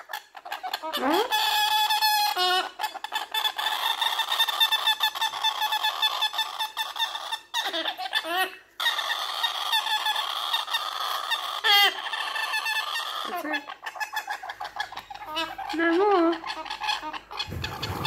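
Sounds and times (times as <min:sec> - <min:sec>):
baby parrot begging calls: 0:00.0 - 0:18.0.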